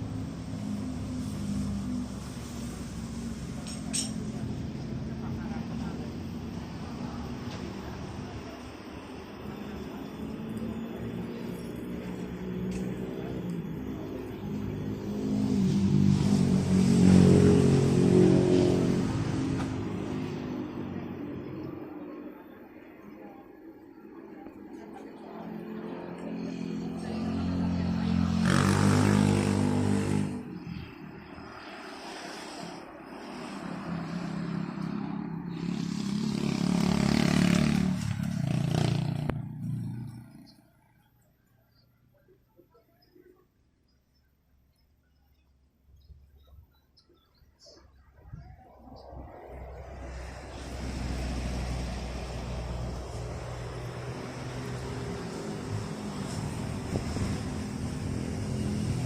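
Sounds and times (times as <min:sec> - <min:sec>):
vehicle engine passing: 0:00.0 - 0:23.0, 0:23.9 - 0:41.0, 0:48.5 - 0:59.0.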